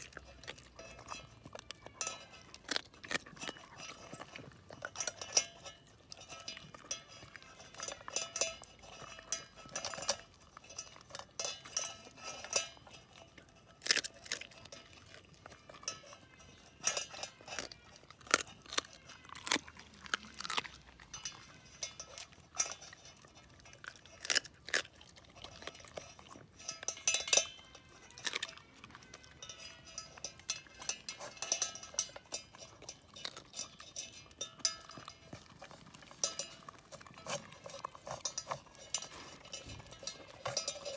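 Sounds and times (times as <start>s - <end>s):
dog chewing: 0.0s - 40.9s
teeth clinking against metal pot: 0.0s - 40.9s.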